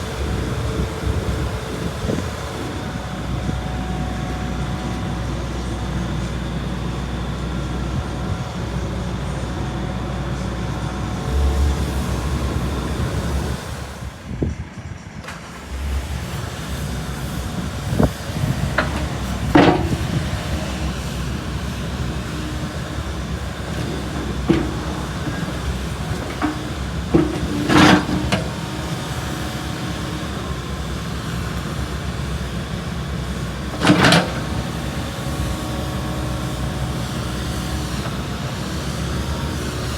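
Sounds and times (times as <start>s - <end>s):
excavator diesel engine running: 0.0s - 39.9s
machine clanks and squeals: 0.0s - 39.9s.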